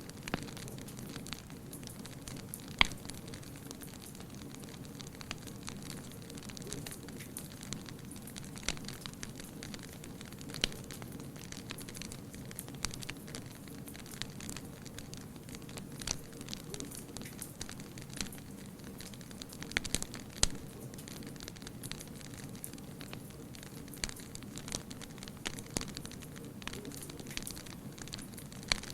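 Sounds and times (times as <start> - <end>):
fire rumbling: 0.0 - 28.9
wood crackling and popping: 0.0 - 28.9.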